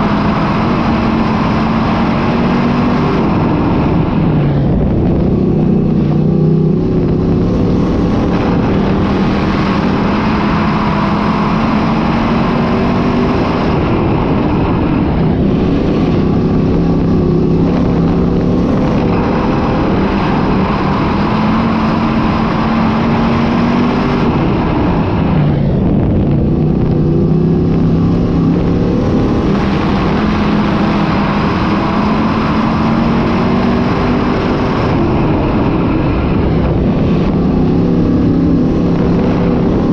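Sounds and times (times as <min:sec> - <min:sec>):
race car engines running hard: 0:00.0 - 0:39.9.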